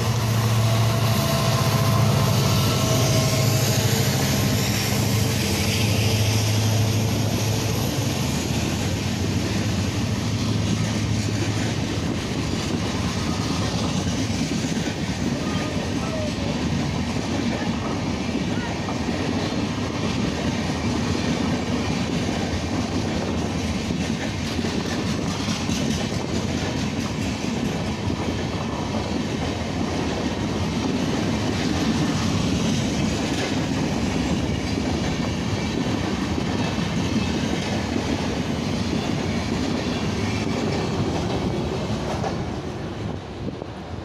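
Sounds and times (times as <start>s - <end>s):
train wheels rumbling on track: 0.0s - 44.0s.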